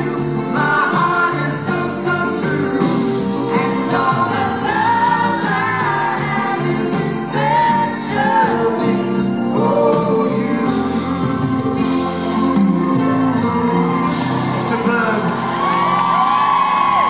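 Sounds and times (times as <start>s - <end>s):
man and woman singing: 0.0s - 14.1s
band with electric guitar: 0.0s - 17.0s.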